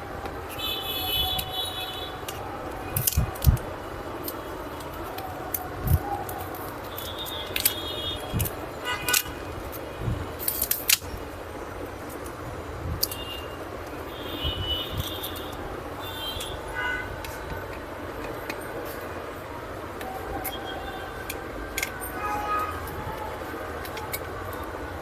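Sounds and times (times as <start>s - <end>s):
hand tools clicking and tapping: 0.2s - 11.4s, 12.0s - 16.6s, 17.2s - 19.2s, 19.9s - 25.0s.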